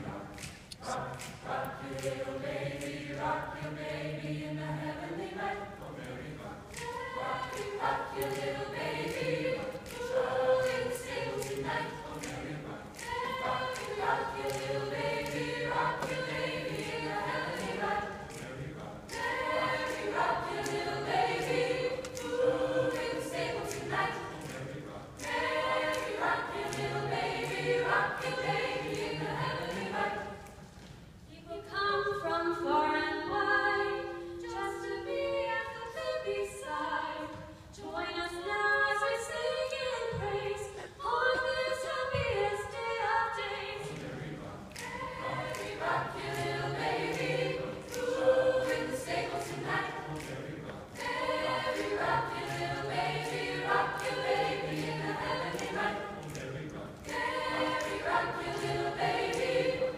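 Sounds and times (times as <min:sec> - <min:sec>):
choir singing: 0:00.0 - 0:30.8, 0:31.4 - 0:59.9.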